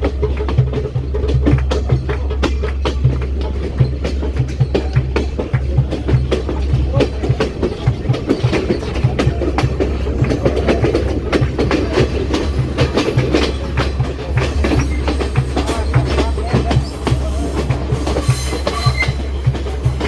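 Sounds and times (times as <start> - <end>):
train rumble: 0.0 - 20.0
train wheels clacking: 0.0 - 20.0.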